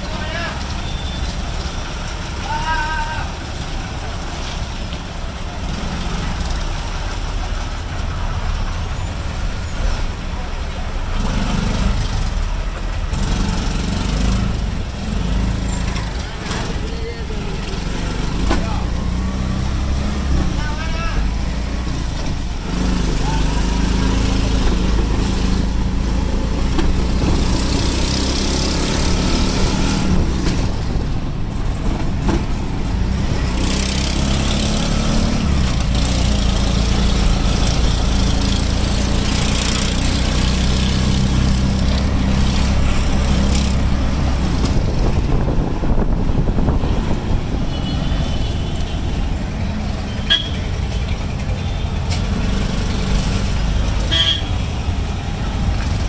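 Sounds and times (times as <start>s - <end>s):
auto-rickshaw engine running: 0.0s - 56.0s
road and traffic noise: 0.0s - 56.0s.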